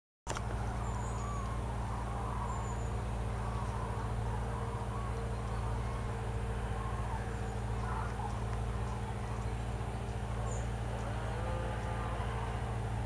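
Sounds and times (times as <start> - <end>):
cranes trumpeting: 0.3 - 13.0
steady low hum: 0.3 - 13.0.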